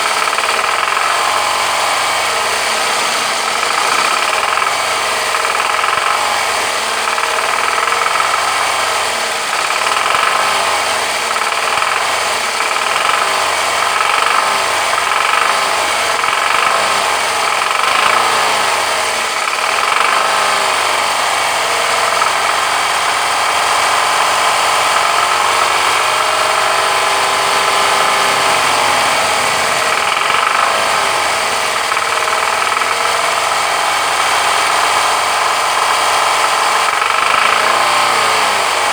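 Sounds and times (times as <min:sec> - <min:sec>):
car engine running with knock: 0:00.0 - 0:38.9.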